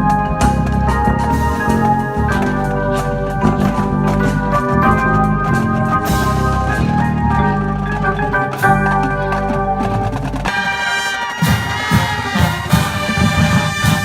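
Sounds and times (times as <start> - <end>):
brass holding long chords: 0.0 - 14.0
steady drumbeat: 0.0 - 14.0.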